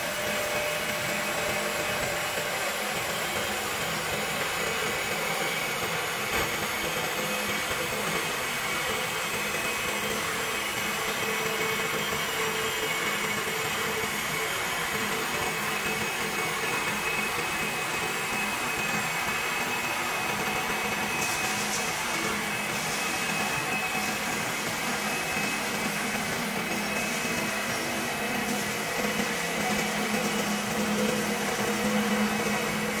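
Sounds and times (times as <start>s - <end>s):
cutters shaving wood: 0.0s - 33.0s
lathe motors whirring: 0.0s - 33.0s.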